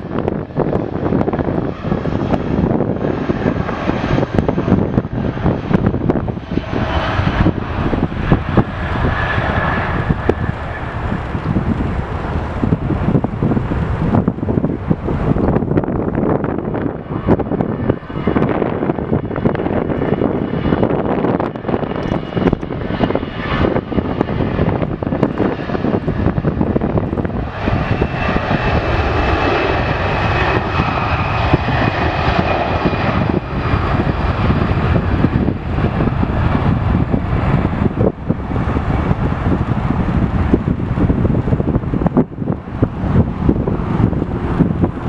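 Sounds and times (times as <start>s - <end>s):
jet engines roaring at takeoff: 0.0s - 45.0s
wind buffeting microphone: 0.0s - 45.0s.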